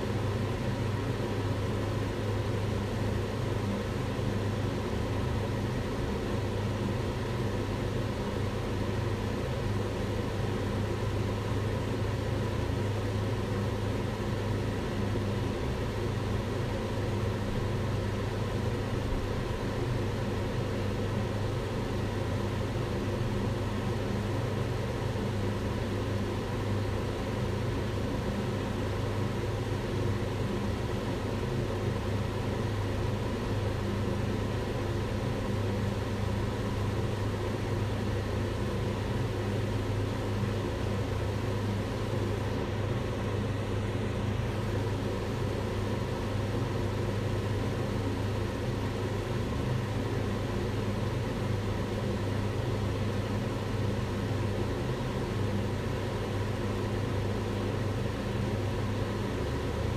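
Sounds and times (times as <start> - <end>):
range hood fan running: 0.0 - 59.9.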